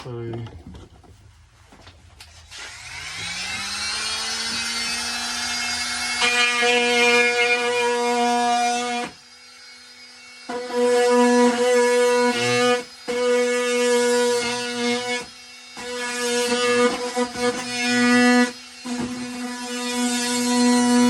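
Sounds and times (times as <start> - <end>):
power tool cutting into wall: 2.2 - 21.0.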